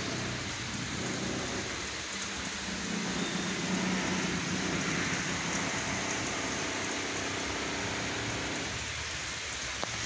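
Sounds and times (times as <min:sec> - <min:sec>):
even hiss: 0:00.0 - 0:10.0.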